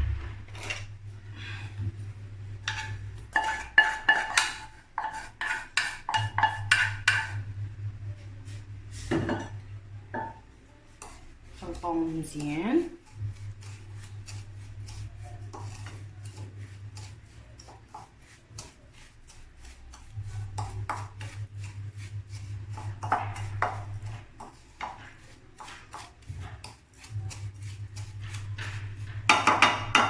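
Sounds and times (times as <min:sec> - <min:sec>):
low steady hum: 0:00.0 - 0:17.8, 0:18.4 - 0:30.0
utensil scraping a bowl: 0:01.5 - 0:30.0.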